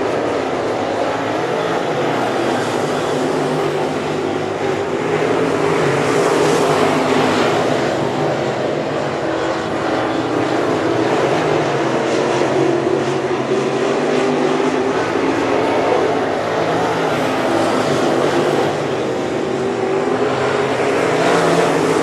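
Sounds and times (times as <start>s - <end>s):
race car engines: 0.0s - 22.0s.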